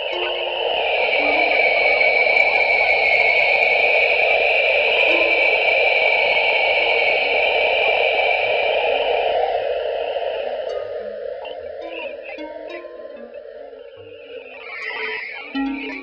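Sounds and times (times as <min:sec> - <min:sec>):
low rush: 0:00.0 - 0:04.5, 0:06.8 - 0:16.0
electronic static hiss: 0:00.0 - 0:16.0.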